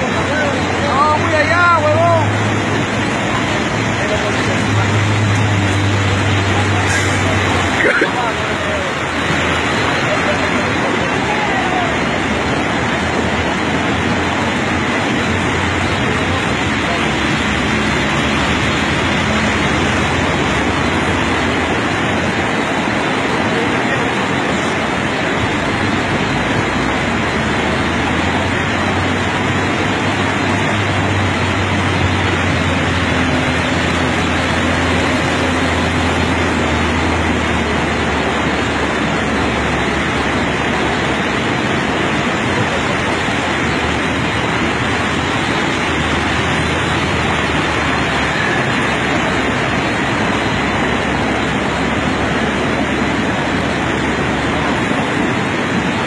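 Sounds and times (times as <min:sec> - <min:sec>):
loud rushing noise: 0:00.0 - 0:56.0
vehicle engine humming: 0:00.0 - 0:56.0.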